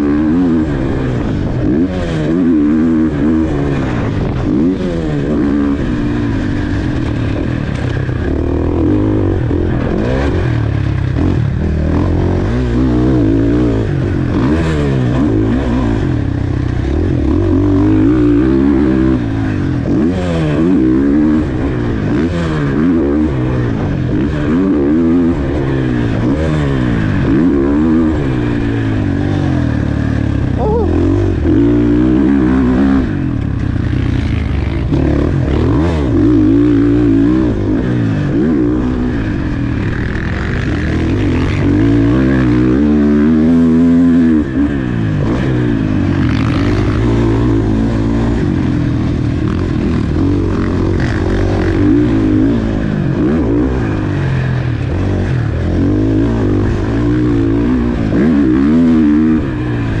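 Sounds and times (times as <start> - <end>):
motocross bike engine revving: 0.0 - 60.0.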